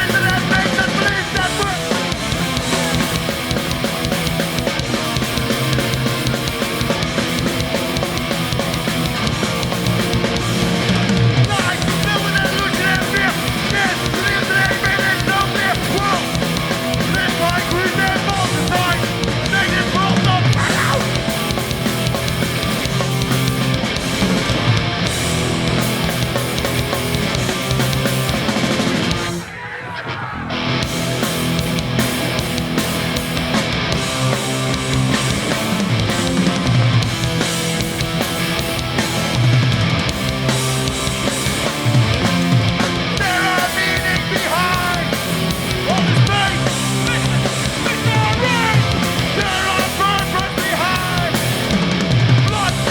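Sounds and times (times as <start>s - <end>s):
vocals: 0.0s - 25.1s, 25.7s - 52.9s
hardcore punk band playing: 0.0s - 29.8s, 30.4s - 52.9s.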